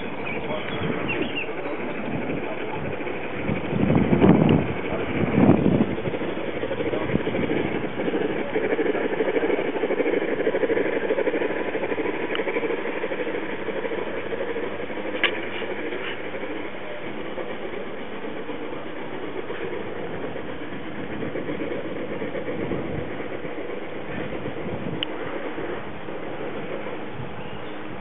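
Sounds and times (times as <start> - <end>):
model train wheels on rails: 0.0 - 28.0.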